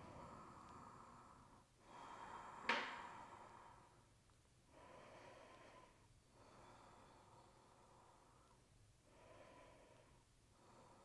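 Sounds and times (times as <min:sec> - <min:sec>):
faint slow breaths: 0:00.0 - 0:11.0.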